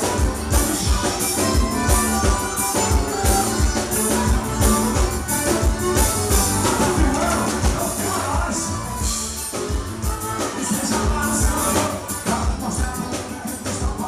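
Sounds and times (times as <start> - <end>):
instrumental dance music: 0.0 - 14.0.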